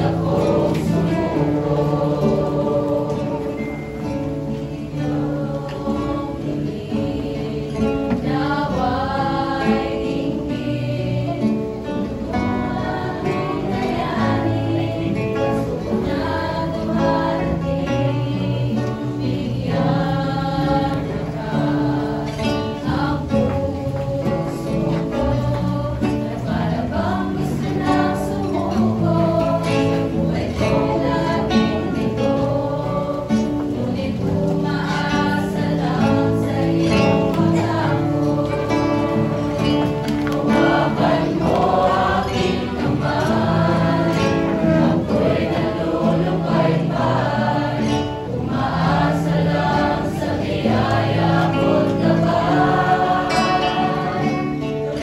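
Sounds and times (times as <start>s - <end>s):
choir singing worship song: 0.0s - 55.0s
instrumental accompaniment: 0.0s - 55.0s.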